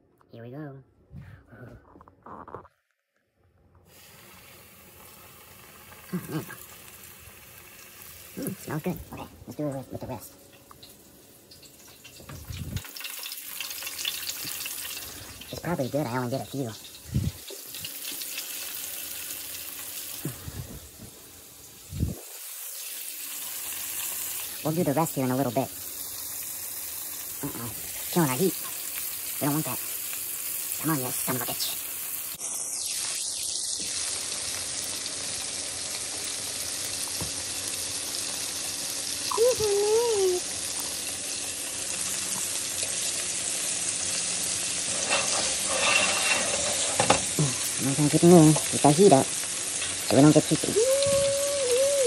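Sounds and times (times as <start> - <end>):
chicken frying in oil: 3.9 - 52.0.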